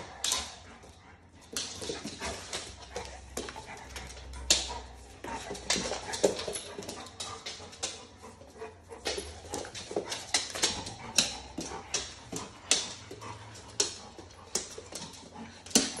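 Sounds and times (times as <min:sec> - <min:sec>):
dog claws scrabbling on floor: 0:00.0 - 0:16.0
dogs vocalizing while playing: 0:00.0 - 0:16.0.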